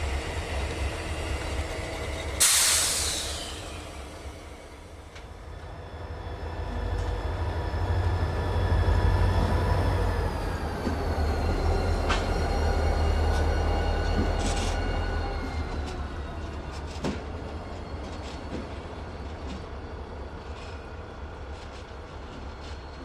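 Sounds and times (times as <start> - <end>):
diesel train rumble: 0.0 - 22.9.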